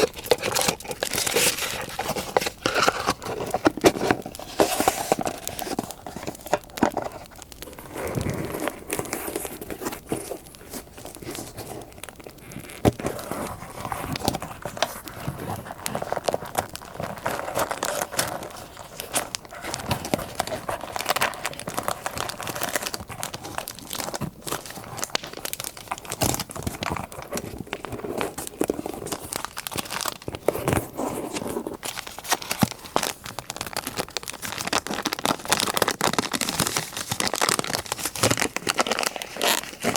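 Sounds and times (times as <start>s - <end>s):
paper crinkling and tearing: 0.0s - 39.9s.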